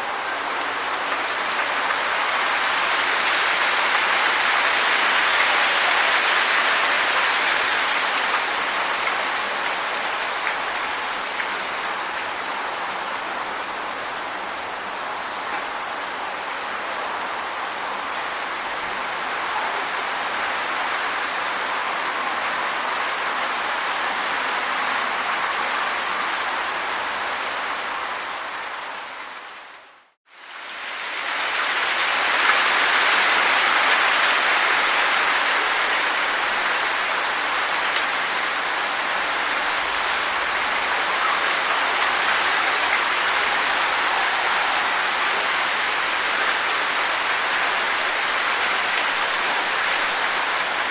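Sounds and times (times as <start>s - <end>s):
wind rustling tree leaves: 0.0s - 50.9s.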